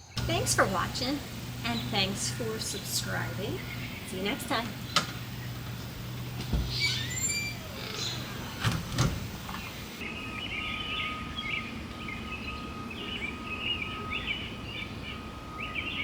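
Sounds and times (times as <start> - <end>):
birds chirping: 0.0 - 16.0
faint high hum: 0.0 - 16.0.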